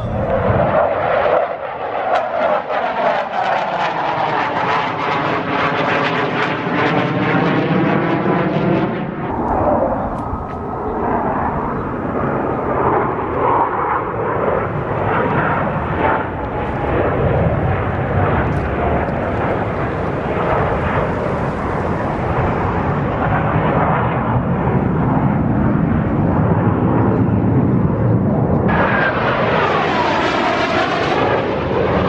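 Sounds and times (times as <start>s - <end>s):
airplane engine rumble: 0.0s - 32.0s.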